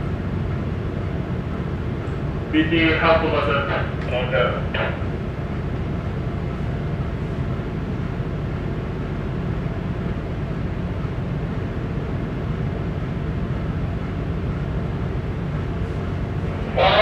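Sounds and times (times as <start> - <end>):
ship machinery rumbling: 0.0 - 17.0.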